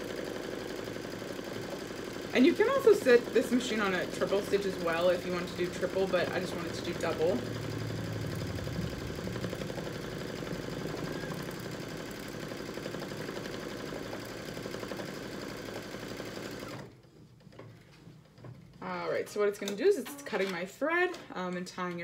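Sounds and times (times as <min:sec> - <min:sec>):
embroidery machine stitching: 0:00.0 - 0:19.2.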